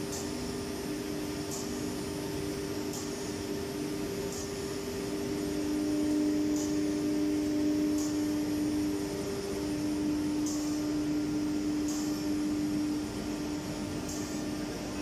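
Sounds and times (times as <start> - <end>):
cnc router spindle running: 0.0 - 15.0.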